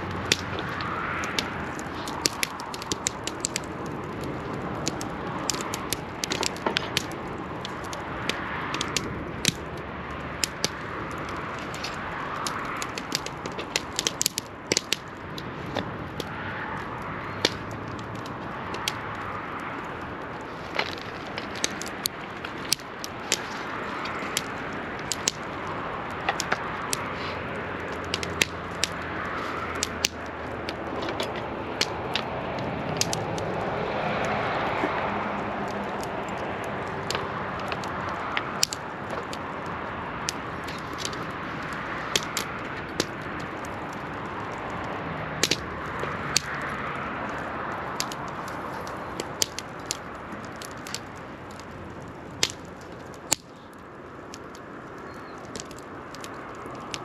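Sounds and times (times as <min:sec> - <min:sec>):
fire hissing: 0:00.0 - 0:57.0
wood fire crackling and popping: 0:00.0 - 0:57.0.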